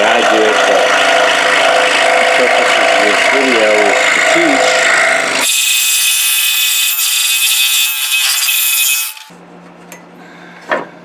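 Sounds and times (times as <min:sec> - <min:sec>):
scroll saw cutting wood: 0:00.2 - 0:09.4.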